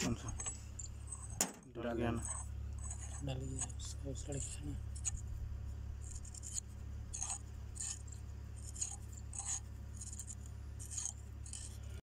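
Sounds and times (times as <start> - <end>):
light metallic clinks and scrapes: 0.0 - 12.0
steady low hum: 0.0 - 12.0.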